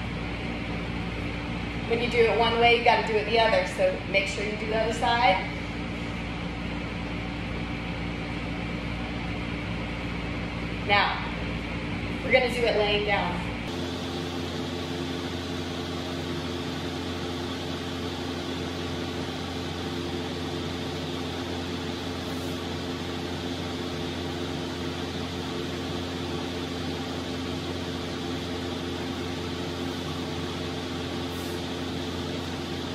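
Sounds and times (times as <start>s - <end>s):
machine hum with low tones: 0.0s - 32.9s.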